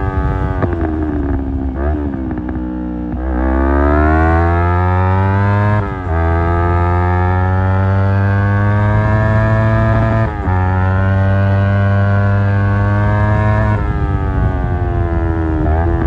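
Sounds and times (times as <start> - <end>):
motorcycle engine accelerating hard: 0.0 - 16.0.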